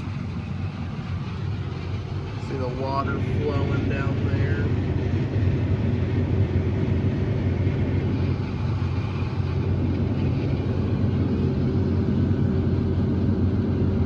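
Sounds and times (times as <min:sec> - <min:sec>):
combine harvester drone: 0:00.0 - 0:14.0.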